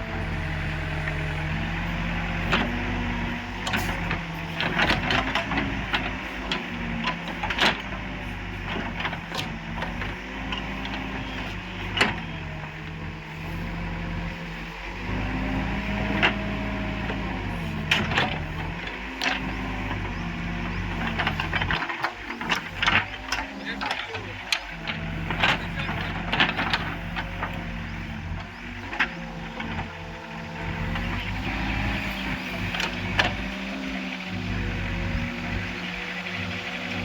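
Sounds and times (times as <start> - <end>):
diesel engine under load: 0.0 - 37.0
digging clanks and knocks: 0.1 - 37.0.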